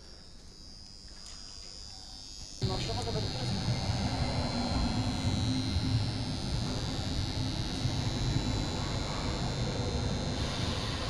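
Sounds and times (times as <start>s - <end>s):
high-pitched whine: 0.0s - 11.0s
welding machine hum: 0.0s - 11.0s.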